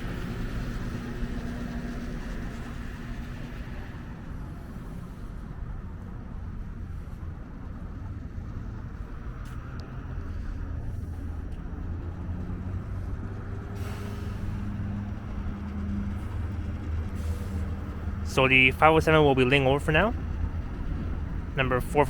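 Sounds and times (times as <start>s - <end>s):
streetcar rumble and electric hum: 0.0s - 22.0s.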